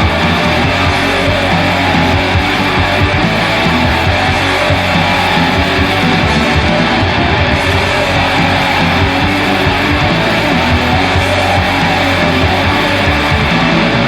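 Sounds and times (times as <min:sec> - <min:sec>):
bass: 0:00.0 - 0:14.0
distorted electric guitars: 0:00.0 - 0:14.0.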